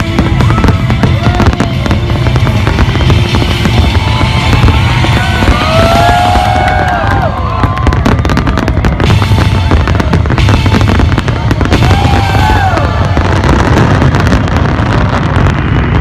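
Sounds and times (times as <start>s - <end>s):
music playing: 0.0s - 15.3s
fireworks crackling pops: 0.0s - 16.0s
loud rumble: 0.0s - 16.0s.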